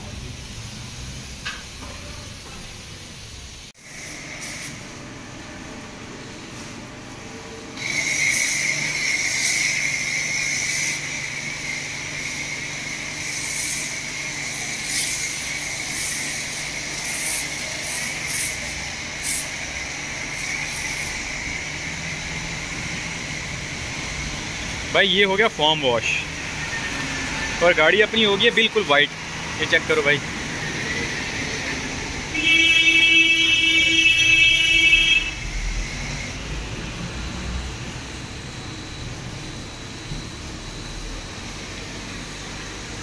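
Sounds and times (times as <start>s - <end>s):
pressure washer spraying car: 0.0s - 5.0s, 7.8s - 42.2s.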